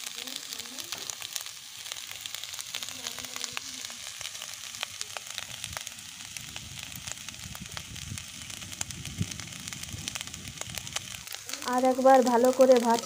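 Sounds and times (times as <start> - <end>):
rice sizzling with crackles: 0.0 - 13.0.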